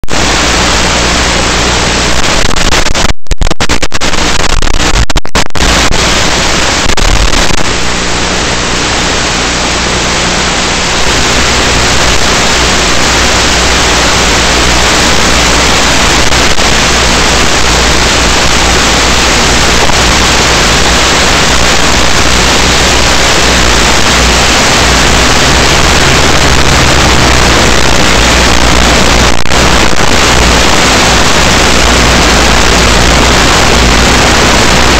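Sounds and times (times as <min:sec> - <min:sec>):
loud static hiss: 0:00.0 - 0:34.9.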